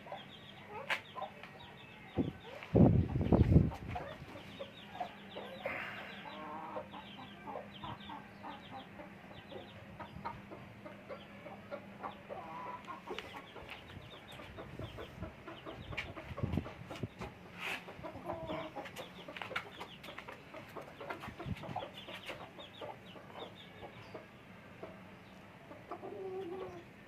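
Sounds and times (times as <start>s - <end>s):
chickens clucking: 0.0s - 27.0s
chicks peeping: 0.0s - 27.0s.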